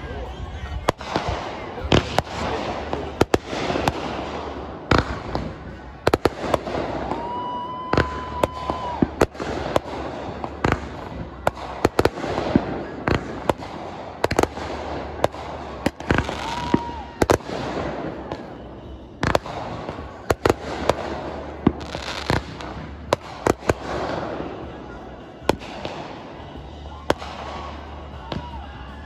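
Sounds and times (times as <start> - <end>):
firework bangs: 0.0 - 29.0
firework crackle: 0.0 - 29.0
firework whistle: 0.9 - 29.0.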